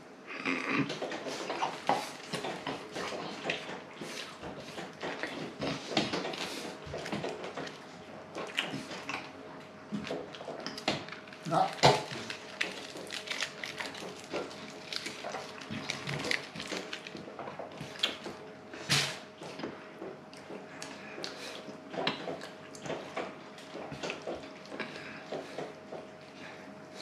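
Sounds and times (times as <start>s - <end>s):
person chewing food: 0.3s - 27.0s.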